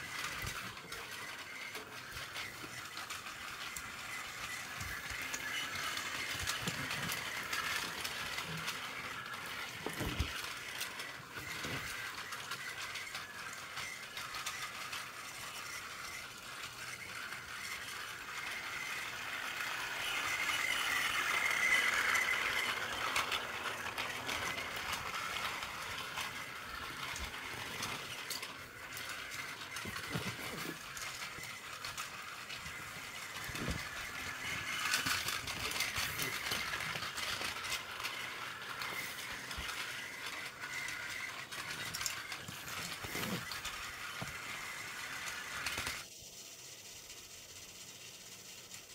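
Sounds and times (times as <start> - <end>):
toy train motor whirring: 0.0 - 48.9.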